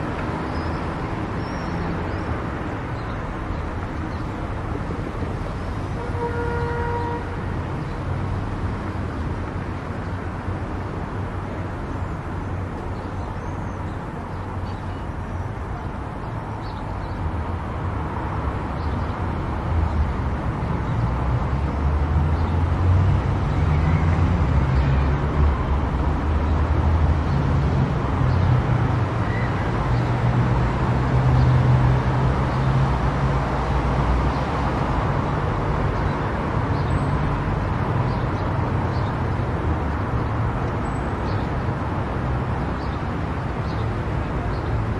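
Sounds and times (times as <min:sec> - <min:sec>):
car driving on highway: 0:00.0 - 0:44.9.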